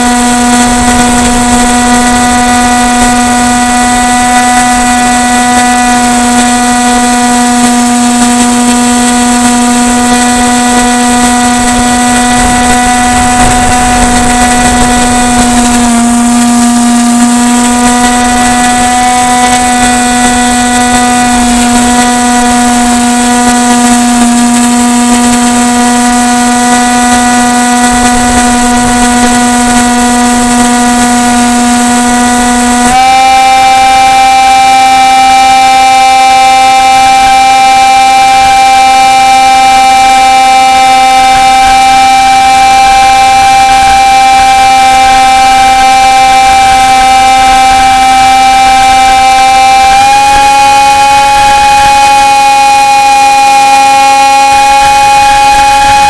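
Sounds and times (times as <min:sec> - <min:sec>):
model plane propeller droning: 0:00.0 - 0:56.0.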